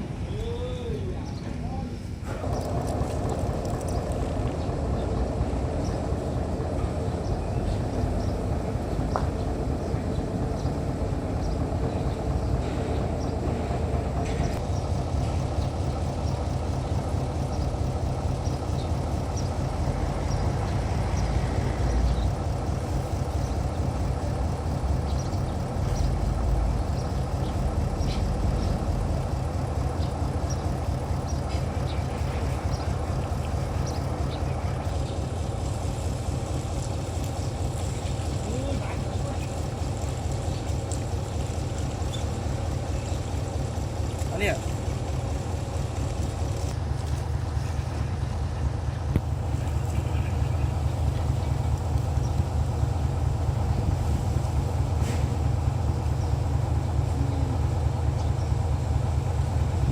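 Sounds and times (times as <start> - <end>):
motor running with low drone: 2.2 - 59.9.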